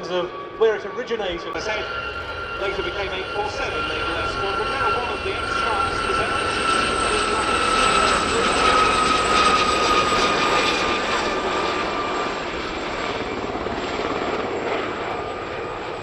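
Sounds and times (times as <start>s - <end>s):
helicopters flying overhead: 0.0s - 16.0s.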